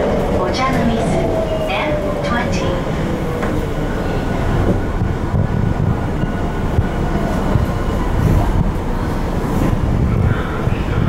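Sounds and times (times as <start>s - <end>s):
wheels rumbling on track: 0.0s - 11.0s.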